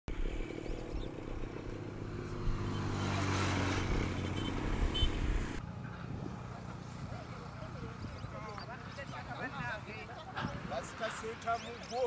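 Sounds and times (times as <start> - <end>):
motor engine running: 0.1 - 10.0.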